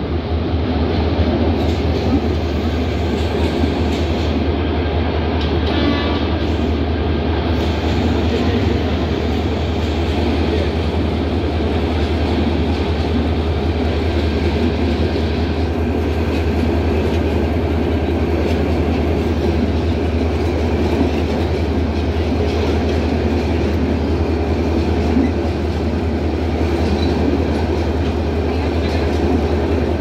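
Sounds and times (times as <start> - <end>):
train wheels rumbling on track: 0.0 - 30.0
train clank: 1.2 - 4.5, 5.3 - 6.8, 7.6 - 30.0.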